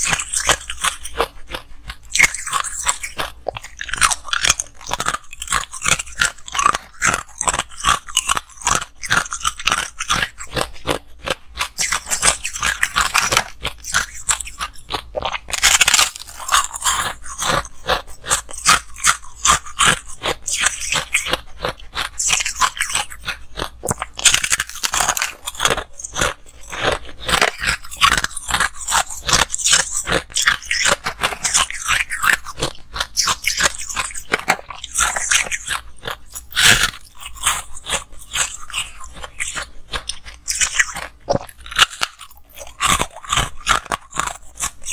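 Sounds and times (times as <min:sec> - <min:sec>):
crunching and chewing frost: 0:00.0 - 0:44.9.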